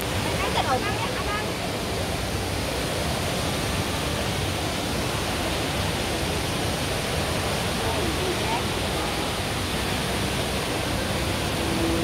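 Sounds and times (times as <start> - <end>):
indoor waterfall rushing: 0.0 - 12.0.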